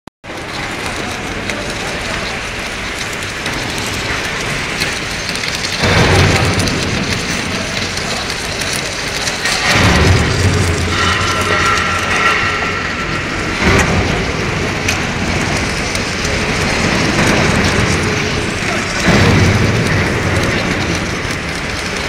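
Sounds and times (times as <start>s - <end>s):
welding arc crackling hiss: 0.2s - 22.0s
loud low machine hum: 0.3s - 22.0s.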